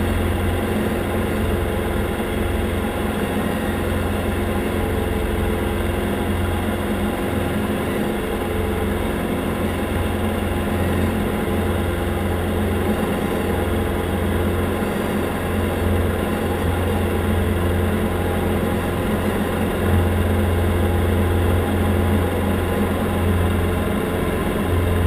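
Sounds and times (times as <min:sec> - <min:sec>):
aircraft engine and propeller drone: 0:00.0 - 0:25.0.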